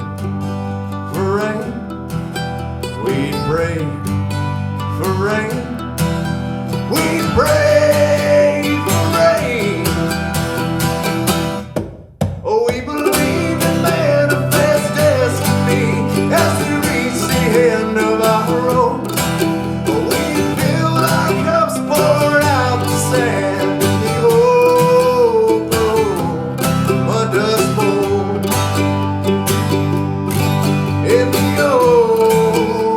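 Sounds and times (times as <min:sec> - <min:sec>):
guitar melody line: 0:00.0 - 0:11.9, 0:12.9 - 0:32.9
strummed guitar chords: 0:00.0 - 0:32.9.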